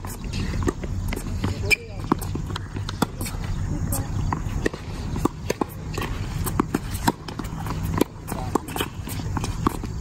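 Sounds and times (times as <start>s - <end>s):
ball bouncing: 0.0s - 10.0s
footsteps on court: 0.0s - 10.0s
rackets striking tennis ball: 0.0s - 10.0s.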